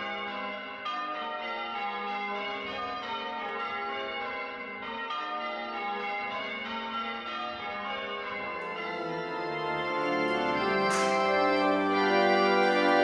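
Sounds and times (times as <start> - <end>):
church bells change ringing: 0.0 - 13.0.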